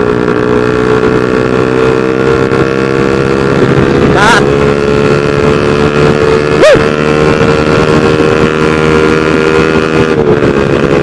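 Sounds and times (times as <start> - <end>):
motorcycle engine running: 0.0 - 11.0
wind noise: 0.0 - 11.0.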